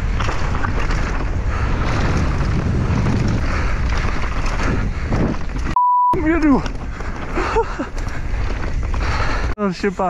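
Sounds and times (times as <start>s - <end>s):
wind buffeting microphone: 0.0s - 9.6s
bike rattling over rough ground: 0.0s - 10.0s.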